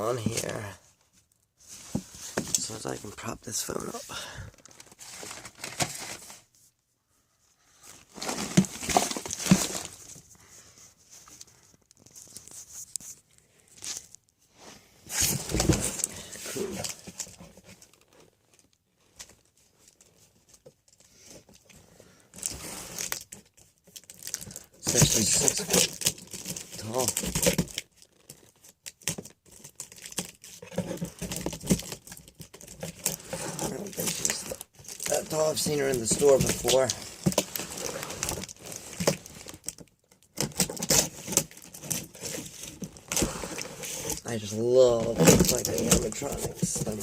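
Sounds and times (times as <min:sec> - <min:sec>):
cardboard rustling and crinkling: 0:00.1 - 0:06.8, 0:07.6 - 0:47.0.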